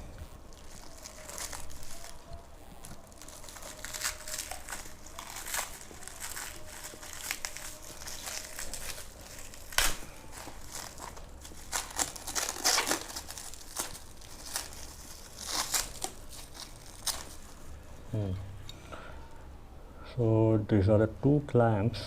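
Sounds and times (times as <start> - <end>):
sharp loud crackle of wrap: 0.0 - 17.8
packing wrap crinkling: 0.0 - 17.9.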